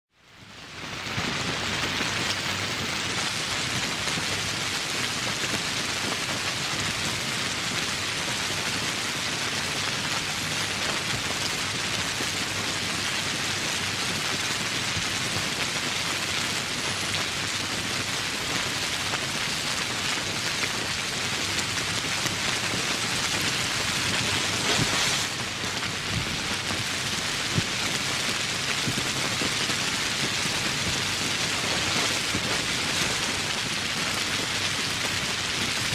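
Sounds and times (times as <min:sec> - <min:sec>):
rain falling in woodland: 0:00.8 - 0:08.2, 0:09.1 - 0:35.9.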